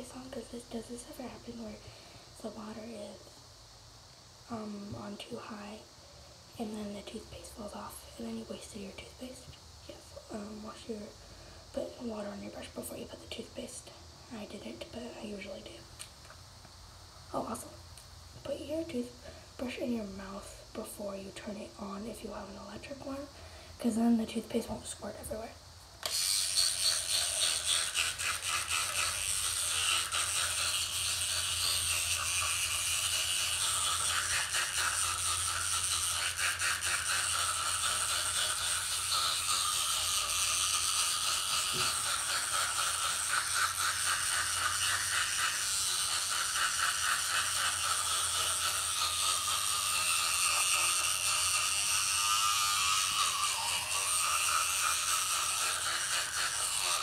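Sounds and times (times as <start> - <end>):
electric toothbrush buzzing: 0.0 - 3.4, 4.4 - 57.0.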